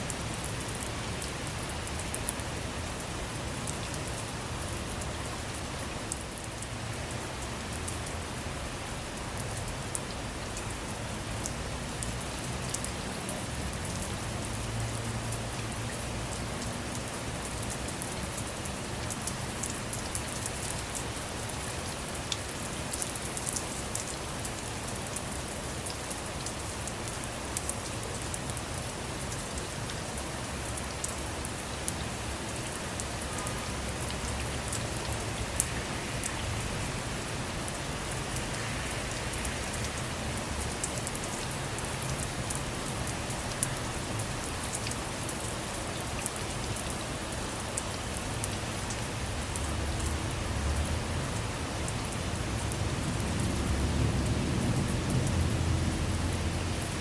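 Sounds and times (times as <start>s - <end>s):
rain on a car roof: 0.0s - 57.0s
sharp ticks of raindrops: 0.0s - 57.0s.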